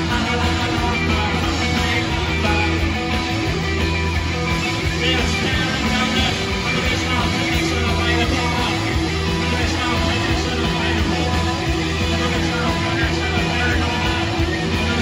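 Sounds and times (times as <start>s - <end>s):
live rock band with electric guitars: 0.0s - 15.0s.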